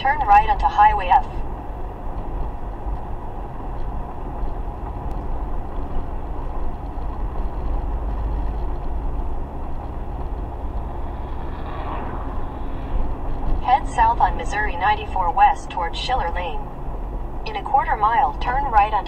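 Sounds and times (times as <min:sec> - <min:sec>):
car interior road and engine rumble: 0:00.0 - 0:19.0.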